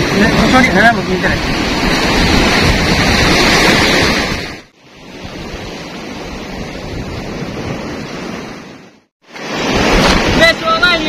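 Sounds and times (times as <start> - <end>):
surf washing over rocks: 0.0 - 11.0
wind on microphone: 0.0 - 11.0.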